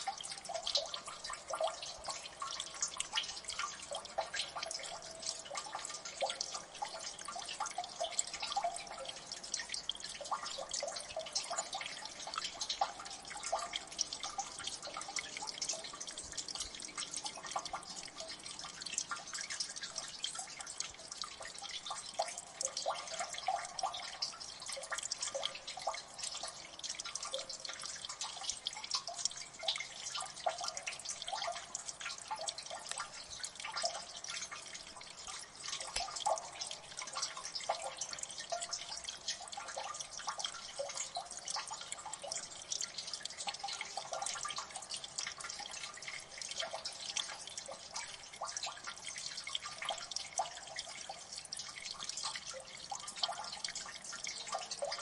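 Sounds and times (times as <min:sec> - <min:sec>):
water dripping and splashing: 0:00.0 - 0:55.0.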